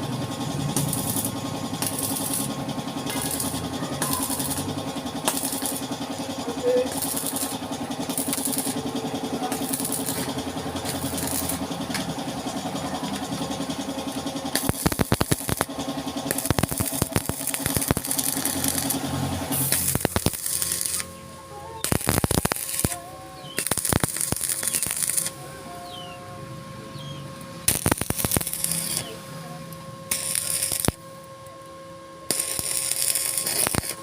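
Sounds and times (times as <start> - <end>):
engine idling: 0.0 - 31.2.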